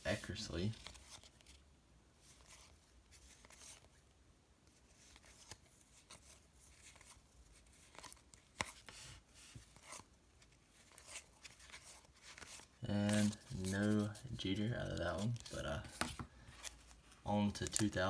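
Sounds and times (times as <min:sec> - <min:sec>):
paper cards being flipped: 0:00.3 - 0:01.6, 0:02.3 - 0:03.9, 0:05.0 - 0:18.0.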